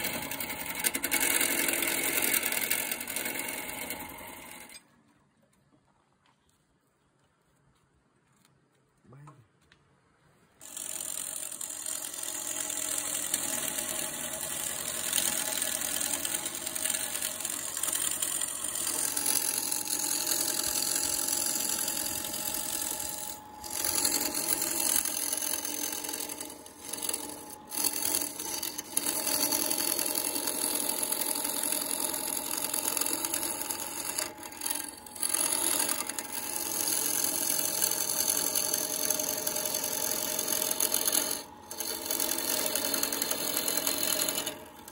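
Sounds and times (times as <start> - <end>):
lathe motor hum: 0.0 - 4.8, 10.6 - 44.9
lathe tool scraping wood: 0.0 - 4.9, 10.6 - 44.9.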